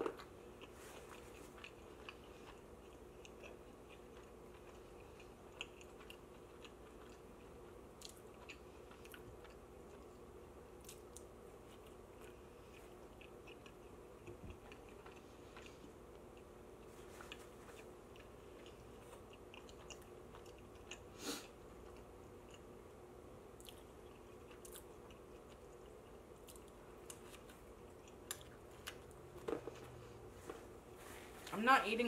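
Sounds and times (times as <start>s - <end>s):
soft chewing clicks: 0.0s - 30.0s
faint steady hum: 0.0s - 32.0s.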